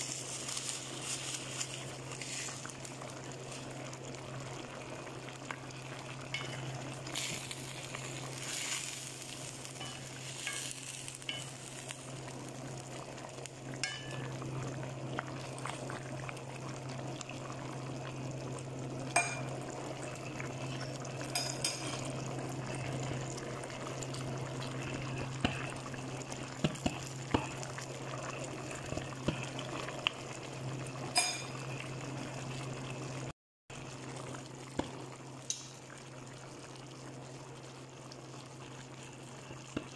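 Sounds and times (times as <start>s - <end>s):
stew bubbling in a pan: 0.0s - 39.9s.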